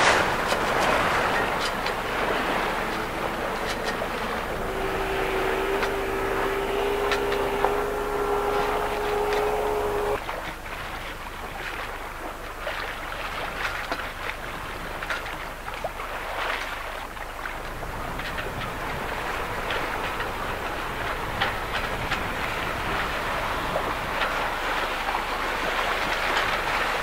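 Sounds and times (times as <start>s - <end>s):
outboard motor whining: 0.0s - 27.0s
water splashing and lapping: 0.0s - 27.0s.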